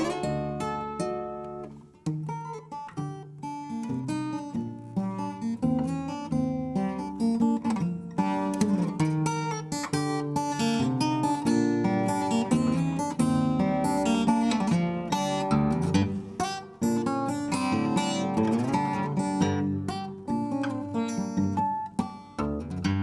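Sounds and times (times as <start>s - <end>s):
fingerstyle acoustic guitar: 0.0s - 23.0s.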